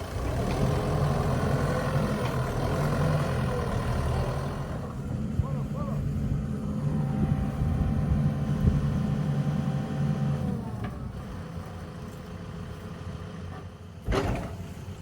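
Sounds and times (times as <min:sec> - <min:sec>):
diesel engine whining under load: 0:00.0 - 0:15.0.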